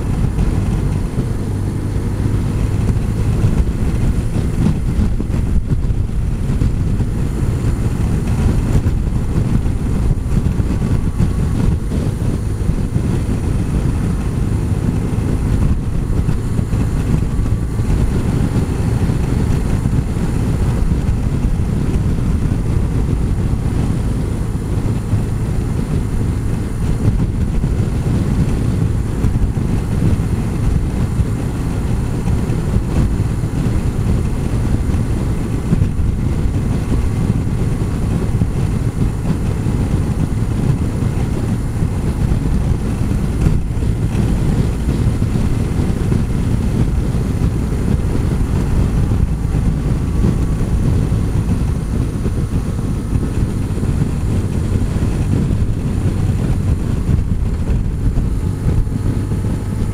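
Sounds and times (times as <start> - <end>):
motorcycle engine running: 0.0 - 59.9
road rumble: 0.0 - 59.9
wind on microphone: 0.0 - 59.9.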